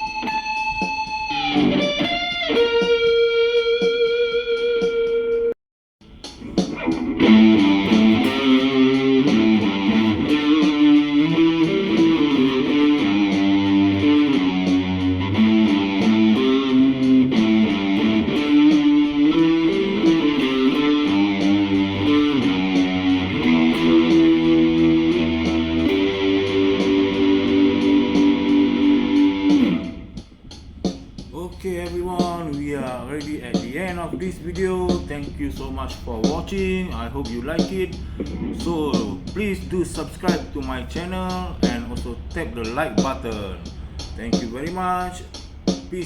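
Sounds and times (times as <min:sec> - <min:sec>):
electric guitar playing: 0:00.0 - 0:31.9, 0:32.6 - 0:46.0.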